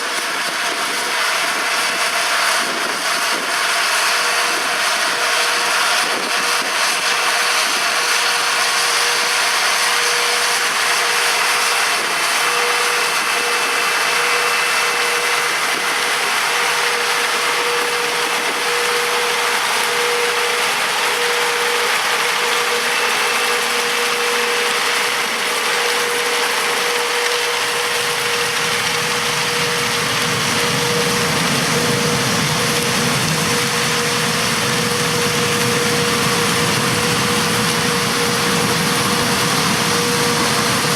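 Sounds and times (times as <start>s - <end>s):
harvesting machine whine: 0.0s - 40.9s
tractor diesel engine: 0.0s - 40.9s.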